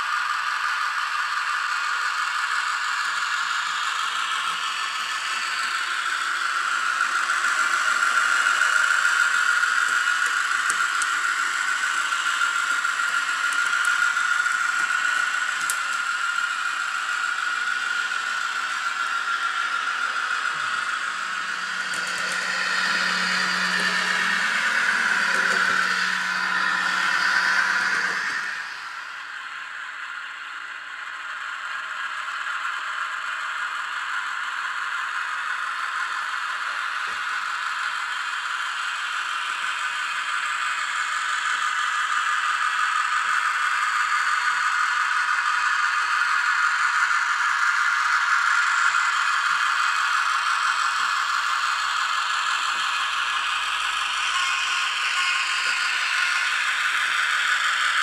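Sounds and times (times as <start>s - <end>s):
model train running on rails: 0.0s - 58.0s
rattling small-engine sound: 0.0s - 58.0s.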